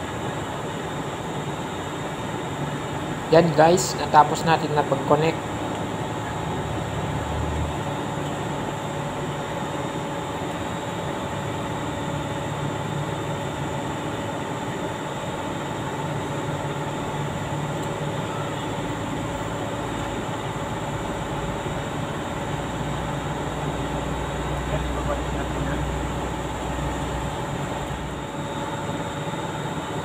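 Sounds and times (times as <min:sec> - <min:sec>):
machinery drone: 0:02.2 - 0:30.0.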